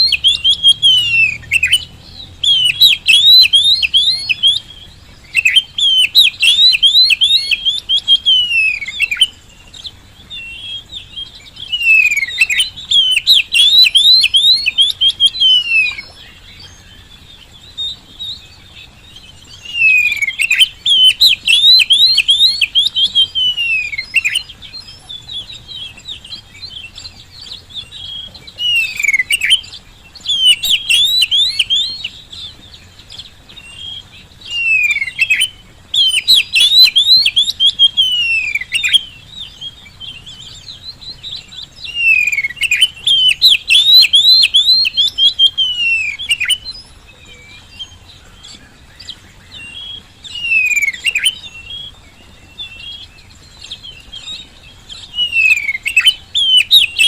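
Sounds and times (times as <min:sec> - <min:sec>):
bird singing whistled notes: 0:00.0 - 0:57.0.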